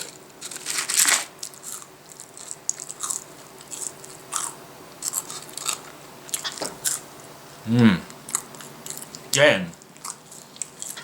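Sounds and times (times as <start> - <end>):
person chewing crispy fries: 0.0 - 7.3, 8.1 - 11.0.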